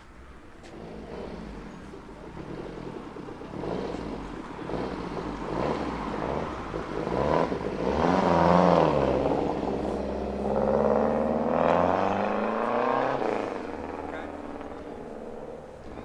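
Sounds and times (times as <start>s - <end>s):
car engine accelerating hard: 0.5s - 16.0s.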